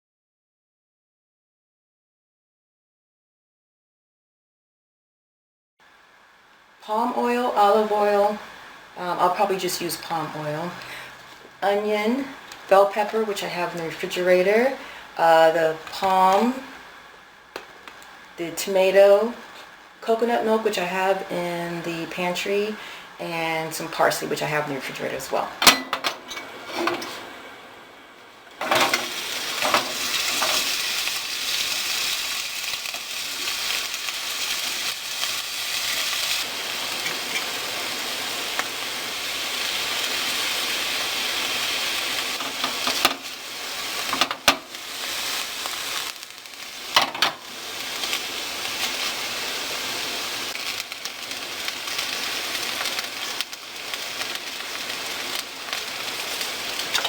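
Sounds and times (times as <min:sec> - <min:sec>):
food sizzling in a pan: 0:05.8 - 0:57.0.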